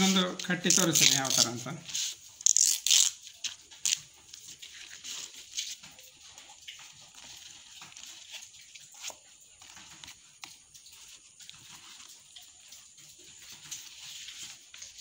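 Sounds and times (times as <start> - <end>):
leaf crinkling and rustling: 0.0 - 15.0.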